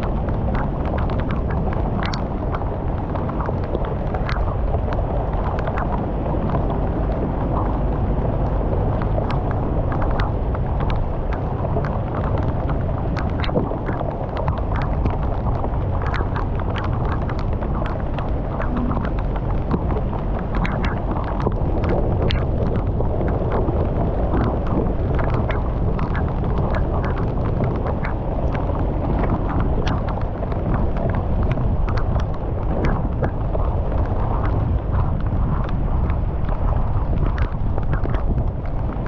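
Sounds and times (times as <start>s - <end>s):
water gushing through culvert: 0.0s - 39.0s
water splashes and knocks: 0.0s - 39.0s.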